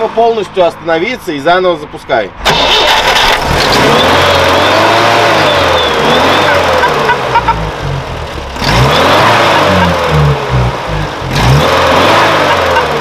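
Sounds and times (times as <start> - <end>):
car engine running: 2.5 - 13.0.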